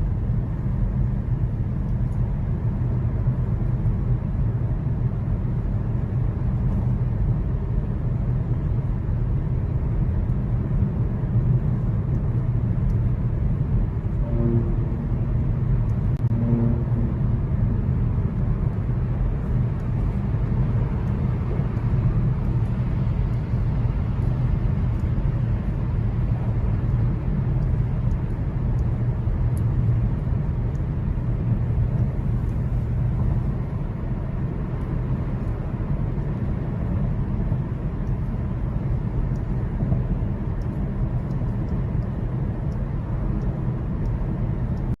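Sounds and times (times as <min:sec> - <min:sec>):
in-cabin road and engine rumble: 0:00.0 - 0:45.0.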